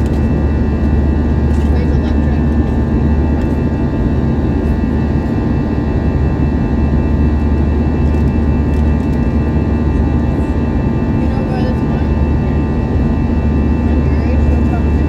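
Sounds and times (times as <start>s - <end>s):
high engine whine: 0.0s - 15.0s
jet engine cabin rumble: 0.0s - 15.0s.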